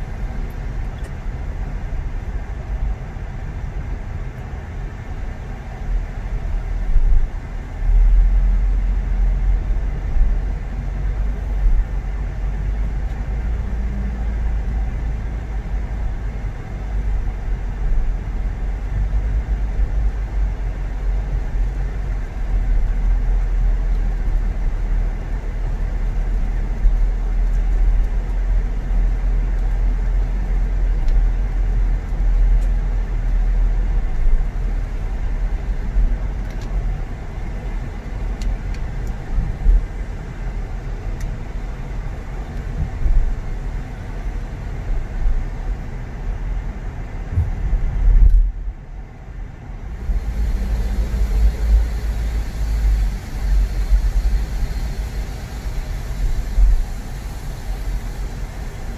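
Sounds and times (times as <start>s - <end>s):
car engine rumble: 0.0s - 58.9s
road noise: 0.0s - 58.9s.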